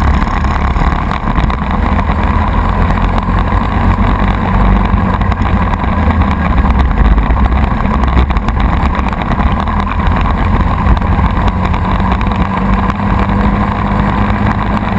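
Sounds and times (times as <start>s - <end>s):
kart engine running: 0.0s - 14.9s.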